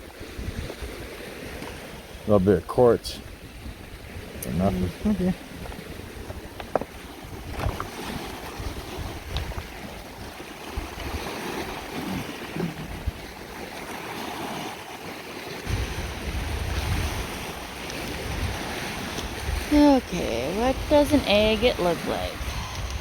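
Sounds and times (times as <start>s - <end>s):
waves washing on rocky shore: 0.0s - 23.0s
wind buffeting microphone: 0.0s - 23.0s.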